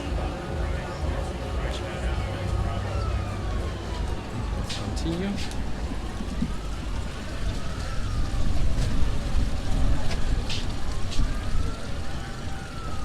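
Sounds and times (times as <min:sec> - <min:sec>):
steady low rumble: 0:00.0 - 0:12.1
siren wailing: 0:00.0 - 0:13.0.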